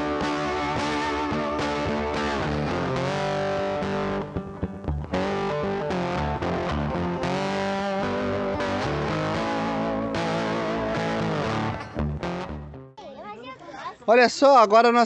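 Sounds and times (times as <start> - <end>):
distorted electric guitar chords: 0.0 - 12.9.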